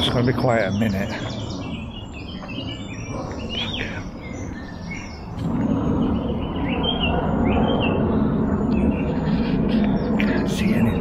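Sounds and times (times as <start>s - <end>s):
low rushing noise: 0.0s - 11.0s
songbirds chirping: 0.0s - 11.0s.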